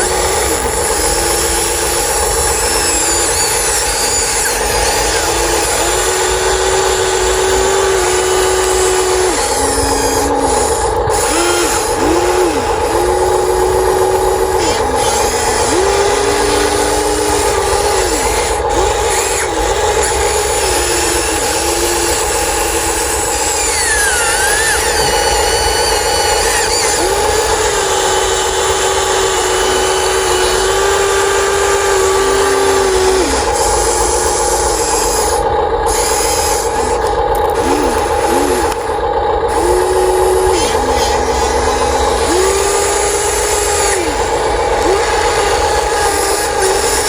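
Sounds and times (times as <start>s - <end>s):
electric motors whining: 0.0s - 47.0s
mechanical hum: 0.0s - 47.0s.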